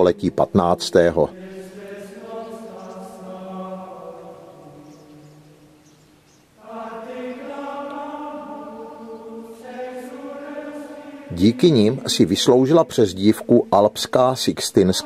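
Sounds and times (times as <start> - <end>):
choir chanting long notes: 0.0 - 15.0.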